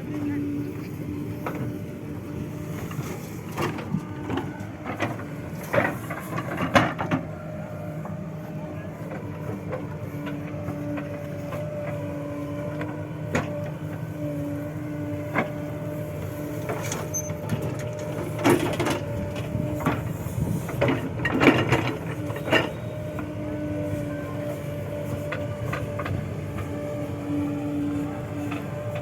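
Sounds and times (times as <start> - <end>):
diesel engine running with whine: 0.0 - 29.0.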